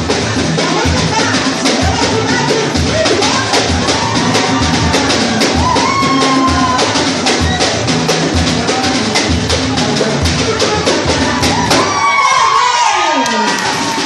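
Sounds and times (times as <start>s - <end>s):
deep bass drum beats: 0.0s - 14.0s
snare and hand percussion: 0.0s - 14.0s.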